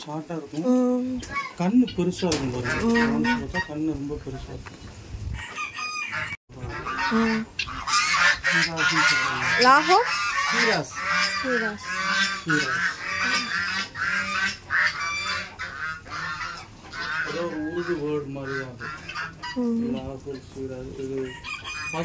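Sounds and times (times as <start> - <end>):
chorus of birds calling: 0.6 - 22.0.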